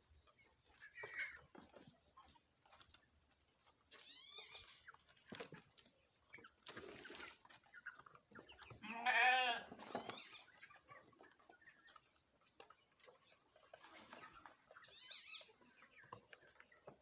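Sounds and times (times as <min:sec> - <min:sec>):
young poultry calling: 0:00.1 - 0:02.4, 0:03.9 - 0:05.1, 0:06.3 - 0:17.0.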